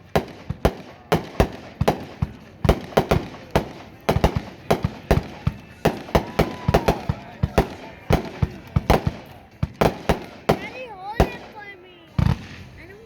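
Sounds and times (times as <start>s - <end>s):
firework cake bangs: 0.0s - 13.0s.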